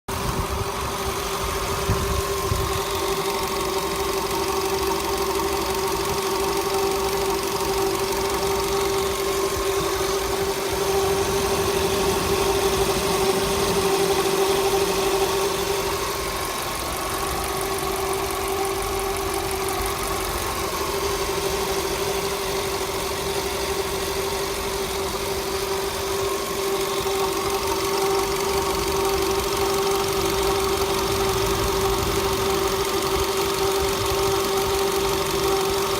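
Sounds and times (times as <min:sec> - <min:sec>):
car engine running: 0:00.1 - 0:35.9.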